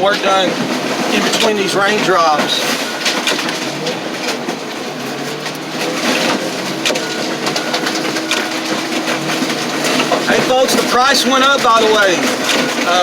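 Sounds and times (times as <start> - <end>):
crackling and crunching: 0.0 - 13.0
diesel engine humming: 0.0 - 13.0.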